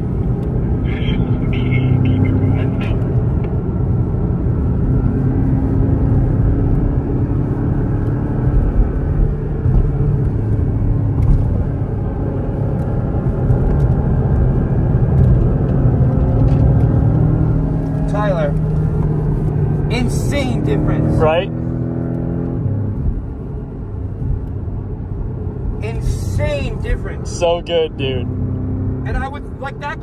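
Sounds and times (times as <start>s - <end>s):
car engine running hard: 0.0s - 30.0s.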